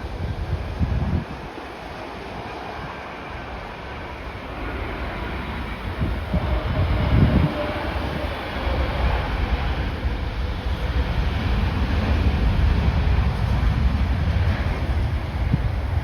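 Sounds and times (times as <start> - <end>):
jet engines rumbling: 0.0 - 16.0
wind buffeting microphone: 0.0 - 16.0.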